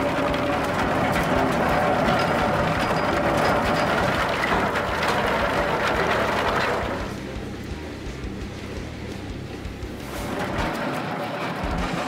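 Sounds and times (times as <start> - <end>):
log peeler machine running: 0.0 - 12.0.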